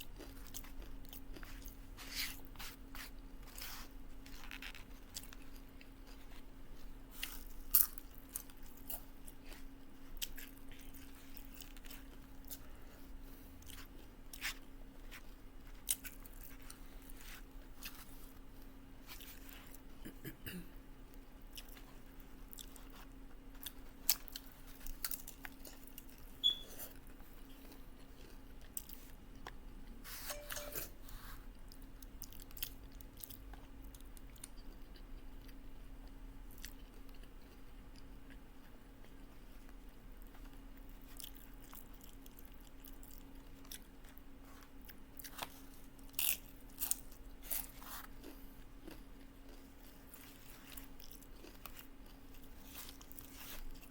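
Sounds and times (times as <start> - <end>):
chewing and crunching chips: 0.0 - 30.4, 31.2 - 53.9.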